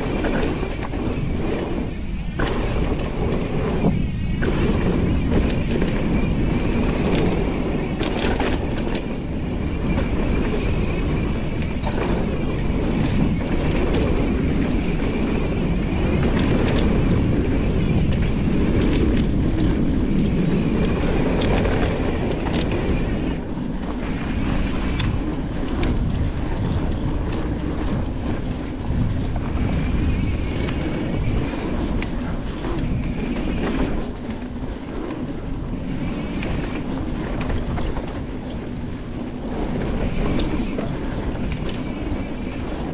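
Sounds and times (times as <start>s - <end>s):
bike clattering and rattling: 0.0s - 42.9s
bike tyre roar on trail: 0.0s - 42.9s.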